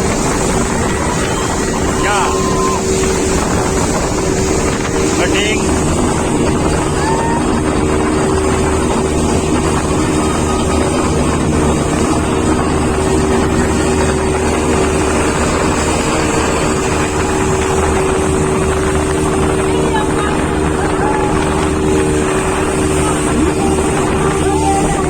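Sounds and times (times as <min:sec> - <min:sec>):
engine running steadily: 0:00.0 - 0:25.0
wind on microphone: 0:00.0 - 0:25.0.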